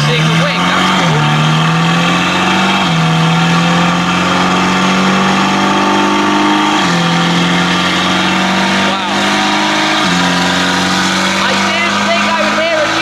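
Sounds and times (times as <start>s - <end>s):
car engine running on dyno: 0.0s - 13.0s.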